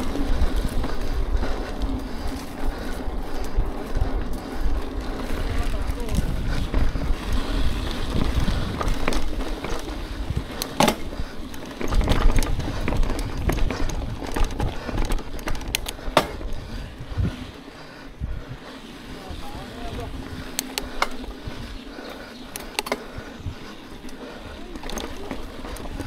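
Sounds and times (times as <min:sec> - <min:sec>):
bike clicks and rattles: 0:00.0 - 0:26.0
bike tyres rumbling on dirt: 0:00.0 - 0:26.0.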